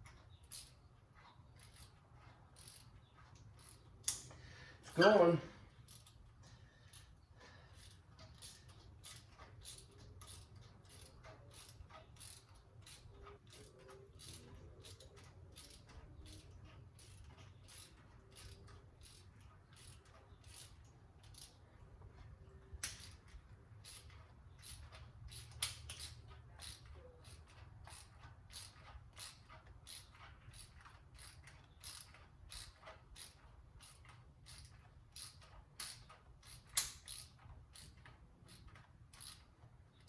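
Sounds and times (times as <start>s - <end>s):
small clicks and ticks of tool: 0.0s - 5.1s, 5.7s - 40.0s.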